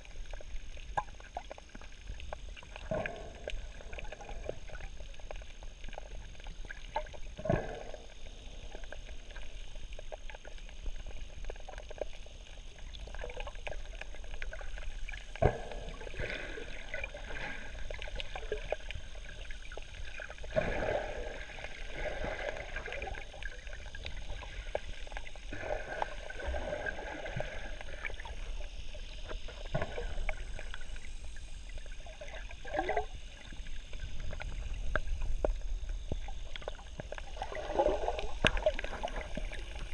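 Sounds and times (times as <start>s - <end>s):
diver's bubbles gurgling: 0.0s - 39.9s
faint crackle of clicks: 0.0s - 39.9s
low rumble of water: 0.0s - 39.9s.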